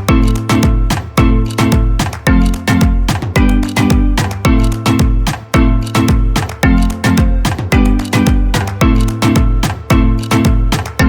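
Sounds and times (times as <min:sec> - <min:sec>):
upbeat music with plucked strings: 0:00.0 - 0:11.0.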